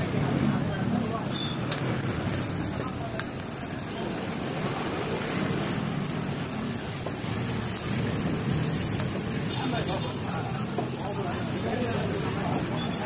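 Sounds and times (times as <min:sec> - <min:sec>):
dough sizzling in oil: 0:00.0 - 0:13.0.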